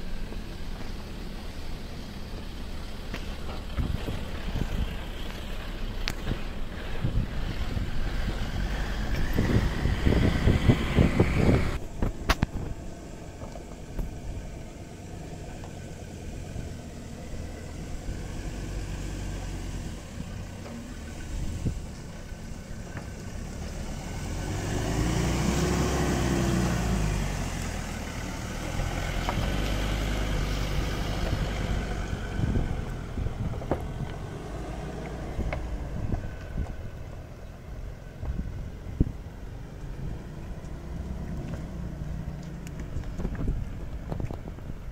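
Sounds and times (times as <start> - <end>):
pickup engine running: 0.0 - 44.9.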